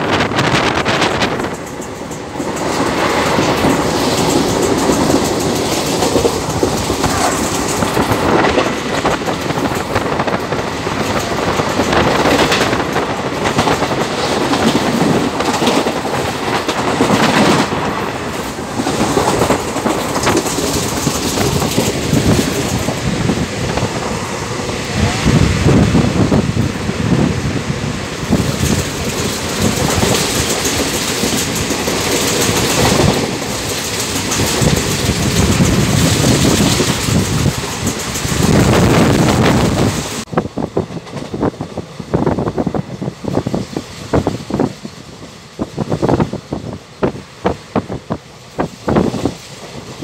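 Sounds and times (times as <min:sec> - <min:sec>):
train wheels clattering on rails: 0:00.0 - 0:50.0.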